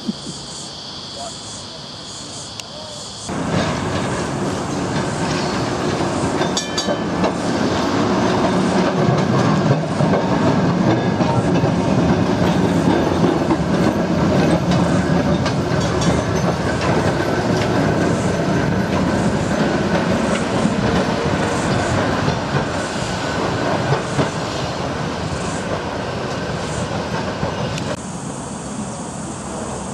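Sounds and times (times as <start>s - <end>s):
electric tram running on rails: 0.0s - 29.9s.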